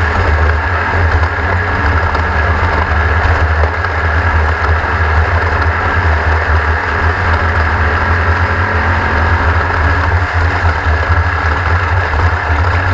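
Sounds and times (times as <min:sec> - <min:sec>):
engine low rough rumble: 0:00.0 - 0:12.9.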